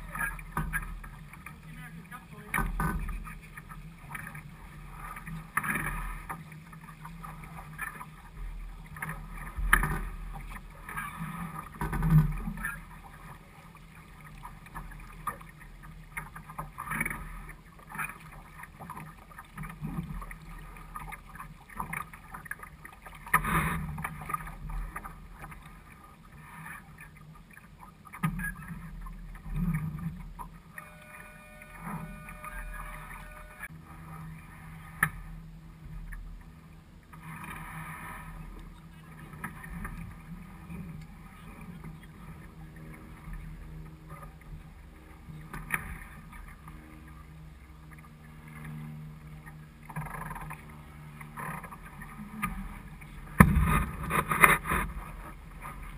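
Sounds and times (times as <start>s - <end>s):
water rushing along hull: 0.0s - 55.9s
waves slapping against boat: 0.0s - 55.9s.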